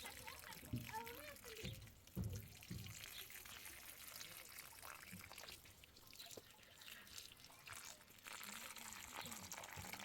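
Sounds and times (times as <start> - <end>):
liquid trickling and dripping: 0.0 - 10.0.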